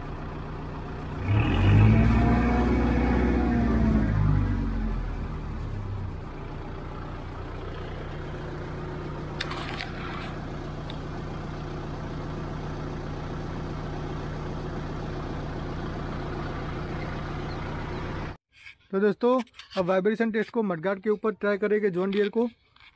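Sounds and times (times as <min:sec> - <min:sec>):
tractor diesel engine idling: 0:00.0 - 0:18.4.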